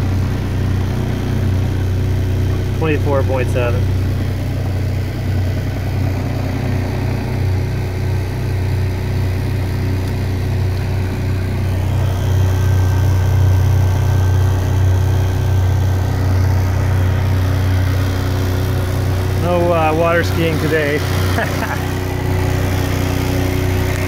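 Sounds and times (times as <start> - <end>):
electric motor humming and whining: 0.0 - 24.0.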